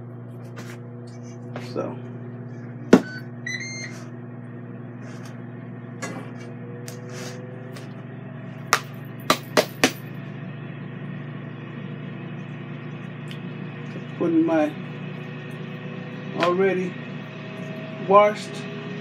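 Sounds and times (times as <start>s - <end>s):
grill fan humming: 0.0s - 19.0s.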